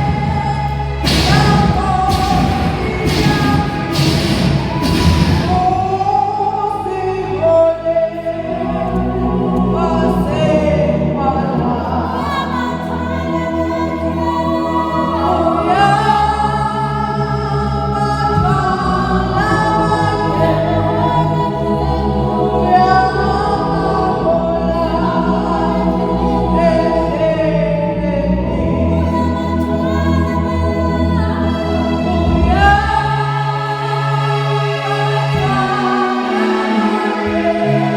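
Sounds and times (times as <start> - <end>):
choir singing gospel: 0.0 - 37.9.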